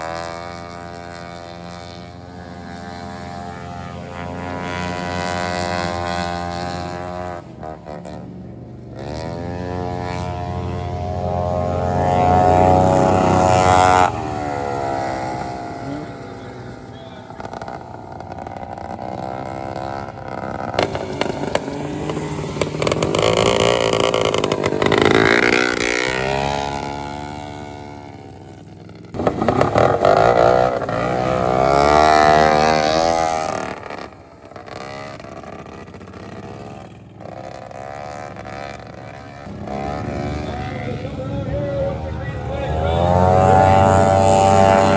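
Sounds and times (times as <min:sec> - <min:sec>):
lawn mower engines racing: 0:00.0 - 0:44.9.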